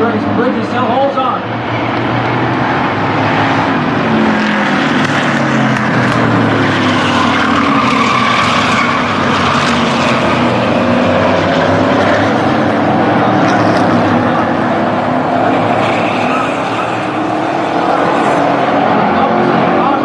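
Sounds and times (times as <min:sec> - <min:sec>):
race truck engines roaring: 0:00.0 - 0:20.0.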